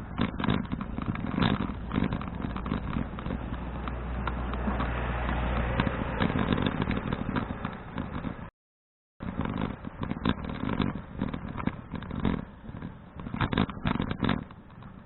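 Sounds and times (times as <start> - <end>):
road rumble: 0.0 - 8.5, 9.2 - 15.0
wind rushing over microphone: 0.0 - 8.5, 9.2 - 15.0.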